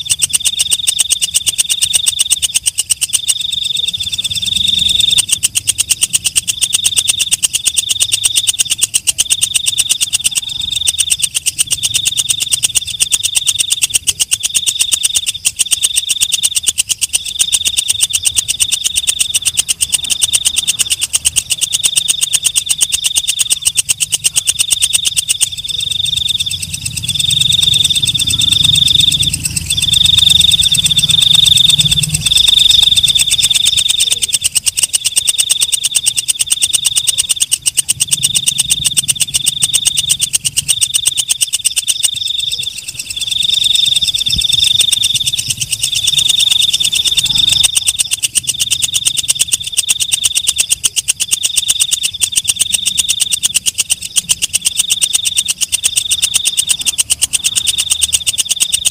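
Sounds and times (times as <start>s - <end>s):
katydid singing: 0.0s - 58.9s.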